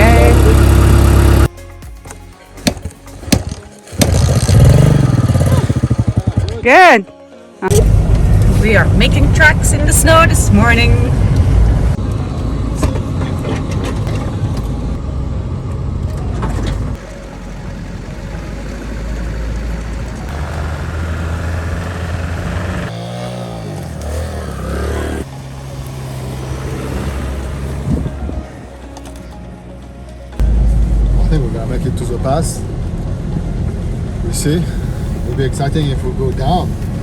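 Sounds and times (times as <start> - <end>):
truck engine running: 0.0 - 1.5, 7.7 - 37.0.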